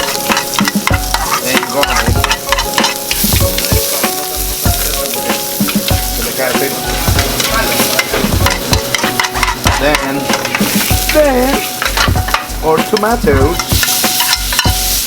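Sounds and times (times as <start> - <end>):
shallots and garlic sizzling in oil: 0.0 - 15.0
utensil scraping a pan: 0.0 - 15.0.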